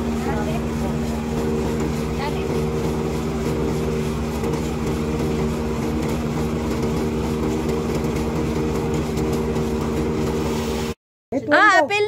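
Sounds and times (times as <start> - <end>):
corn thresher engine humming: 0.0 - 12.0.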